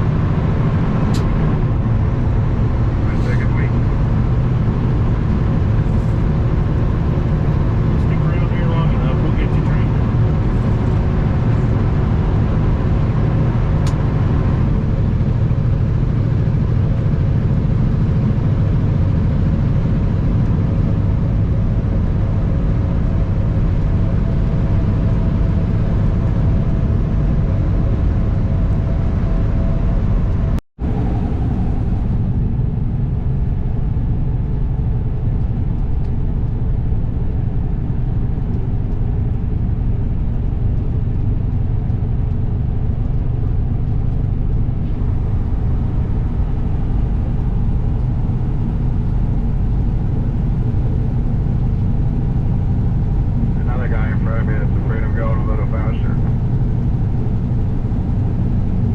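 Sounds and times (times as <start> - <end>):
diesel truck engine drone: 0.0 - 58.9
road noise: 0.0 - 58.9.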